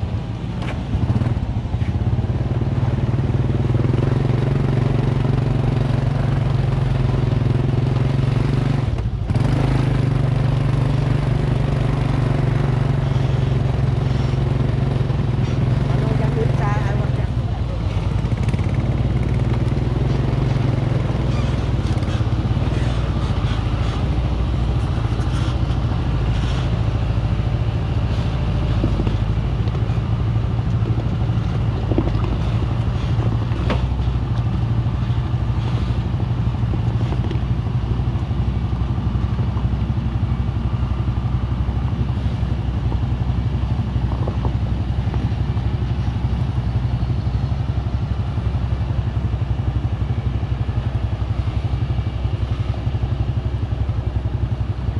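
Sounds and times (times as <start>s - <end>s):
vehicle engine droning: 0.0s - 54.9s.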